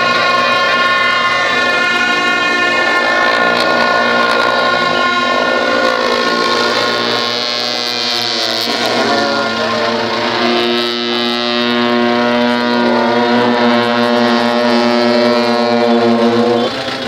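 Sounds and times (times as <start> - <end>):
long horns blowing low note: 0.0 - 17.0.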